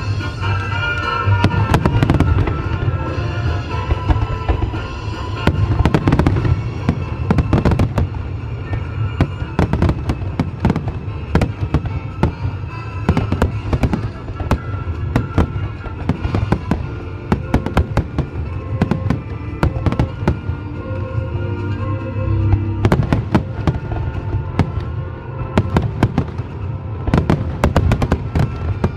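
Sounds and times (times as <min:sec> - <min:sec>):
fireworks bangs and crackles: 0:00.0 - 0:21.3, 0:22.5 - 0:28.9
music playing: 0:00.0 - 0:28.9.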